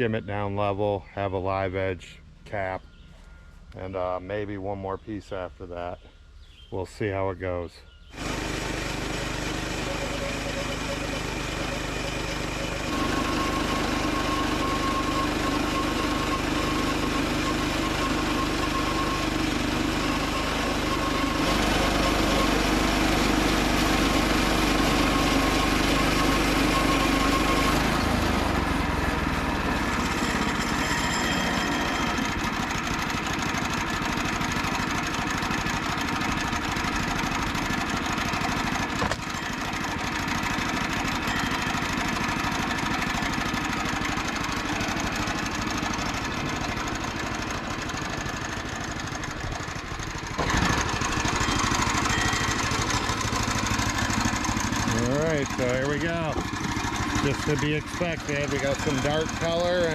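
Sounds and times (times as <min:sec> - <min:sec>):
sawmill gas engine running: 0:08.1 - 0:59.9
bandsaw blade cutting log: 0:08.2 - 0:47.0, 0:50.3 - 0:59.9.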